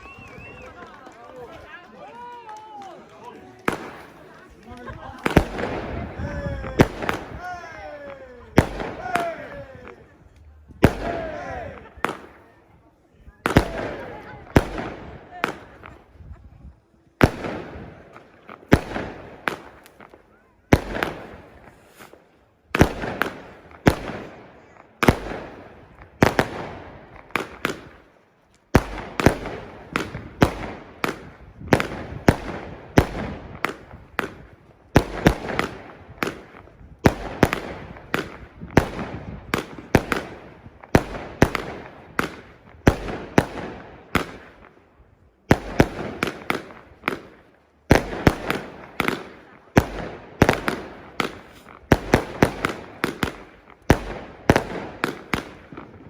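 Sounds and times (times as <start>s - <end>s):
fireworks exploding with echoes: 0.0s - 56.0s.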